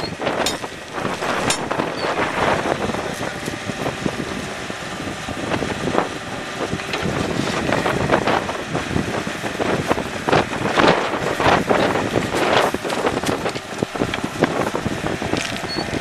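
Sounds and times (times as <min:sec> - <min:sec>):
diesel engine running: 0:00.0 - 0:16.0
wind buffeting microphone: 0:00.0 - 0:16.0.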